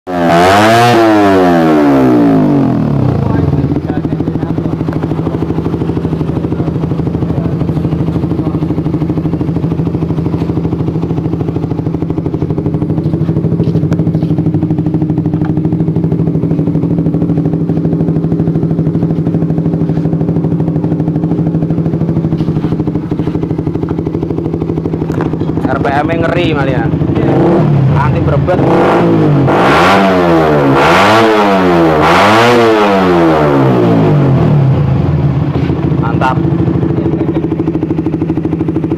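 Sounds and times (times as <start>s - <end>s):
motorcycle engine idling: 0.5s - 29.5s, 32.6s - 38.9s.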